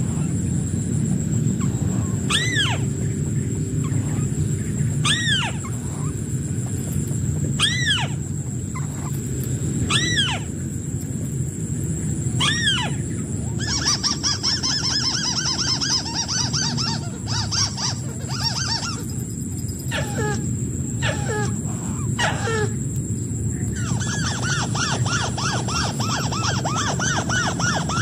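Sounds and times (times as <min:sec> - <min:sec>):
bird calling nasal notes: 0:00.0 - 0:10.7, 0:12.0 - 0:22.9, 0:23.5 - 0:28.0
high-pitched whine: 0:00.0 - 0:28.0.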